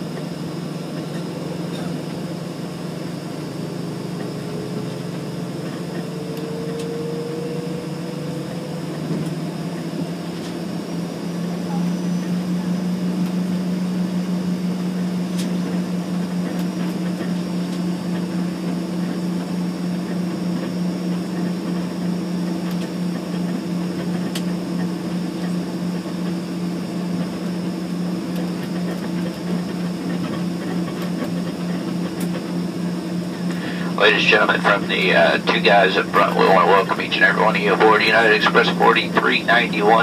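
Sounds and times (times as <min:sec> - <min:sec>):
airliner engines droning in cabin: 0:00.0 - 0:40.0.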